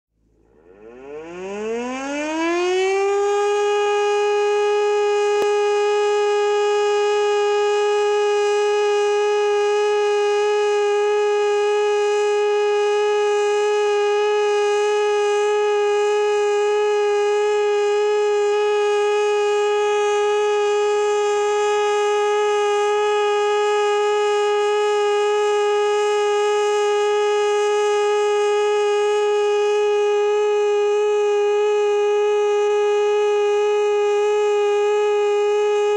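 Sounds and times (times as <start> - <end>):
air-raid siren: 0.2 - 35.9.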